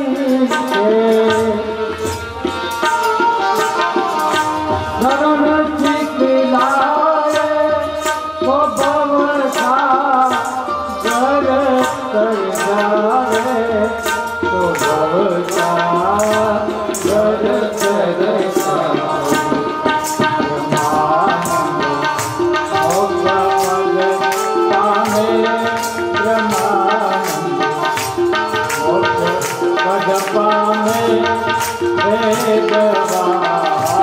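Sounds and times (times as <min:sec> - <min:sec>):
held instrument notes: 0:00.0 - 0:34.0
man singing: 0:00.0 - 0:34.0
tabla beat: 0:00.0 - 0:34.0.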